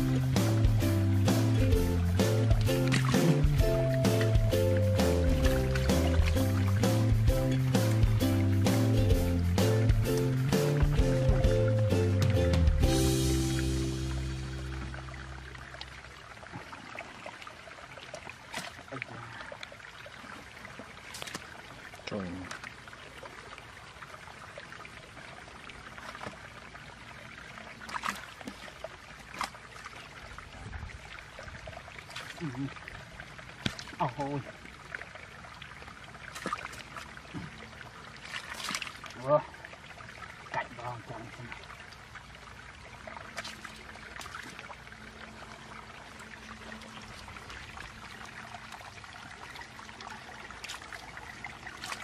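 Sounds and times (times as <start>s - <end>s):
hand sloshing in muddy water: 0.0s - 12.9s, 16.4s - 23.4s, 25.8s - 26.6s, 27.2s - 34.6s, 36.0s - 42.1s, 42.9s - 52.0s
sharp water splashes: 0.0s - 52.0s.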